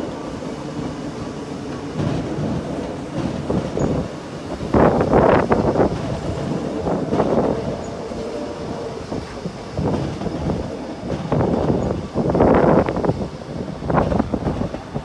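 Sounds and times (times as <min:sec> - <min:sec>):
train rumbling and rattling: 0:00.0 - 0:15.0.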